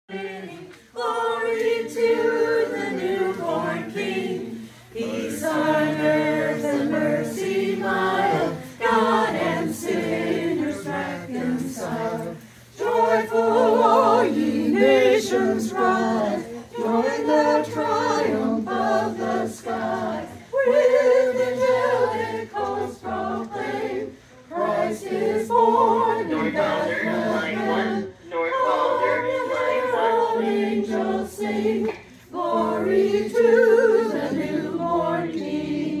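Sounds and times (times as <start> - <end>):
group singing a carol unaccompanied: 0.0 - 36.0.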